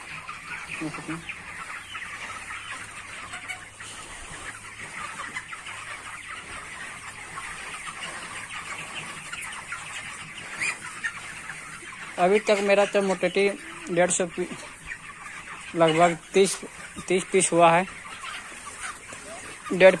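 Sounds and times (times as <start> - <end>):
chickens peeping and clucking: 0.0 - 20.0.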